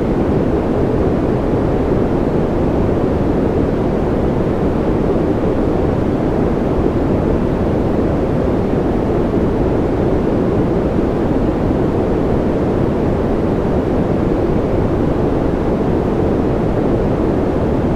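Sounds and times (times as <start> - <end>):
muffled white noise: 0.0 - 17.9.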